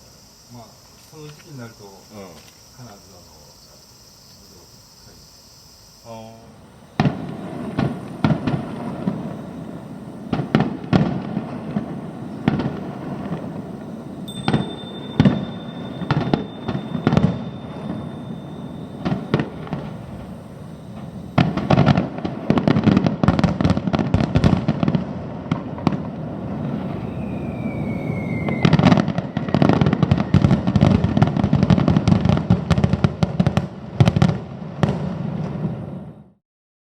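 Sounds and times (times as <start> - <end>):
firework whistle: 0.0 - 36.4
fireworks popping and crackling: 6.2 - 36.2.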